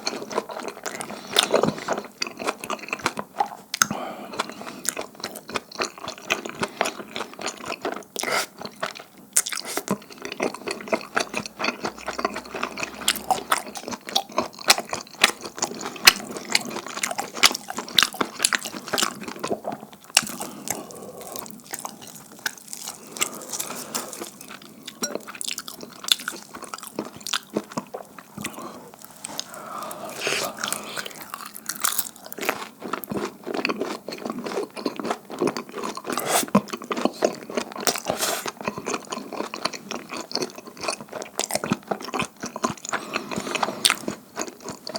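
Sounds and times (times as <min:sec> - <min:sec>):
wet chewing with smacks: 0:00.0 - 0:44.9.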